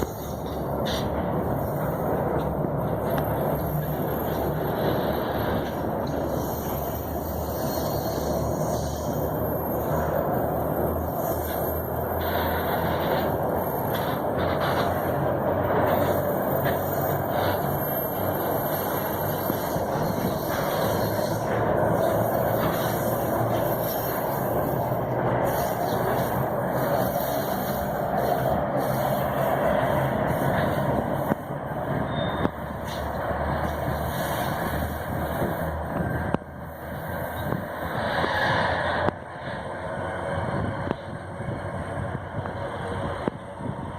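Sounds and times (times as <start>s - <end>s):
freight train rolling past: 0.0s - 43.9s.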